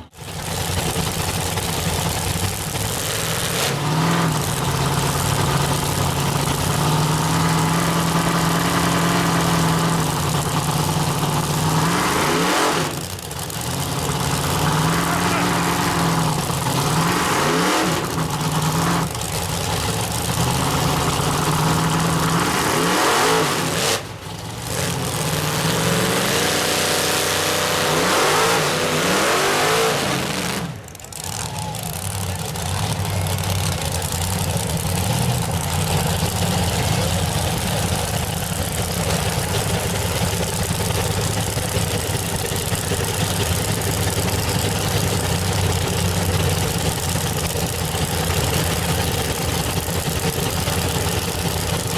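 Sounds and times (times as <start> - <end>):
truck engines revving: 0.0 - 51.9.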